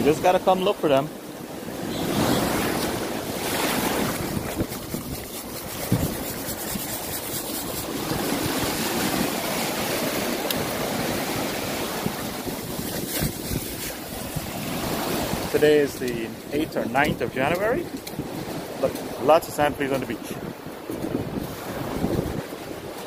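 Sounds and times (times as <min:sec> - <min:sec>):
surf washing over sand: 0:00.0 - 0:23.0
wind on microphone: 0:01.4 - 0:23.0.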